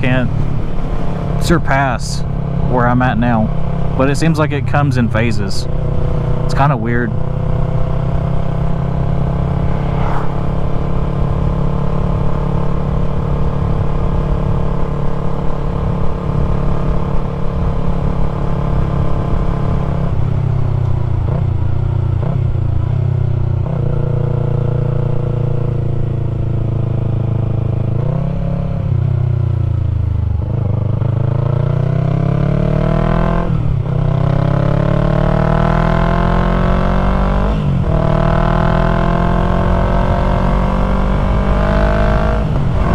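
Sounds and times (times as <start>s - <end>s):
motorcycle engine while riding: 0.0s - 42.9s.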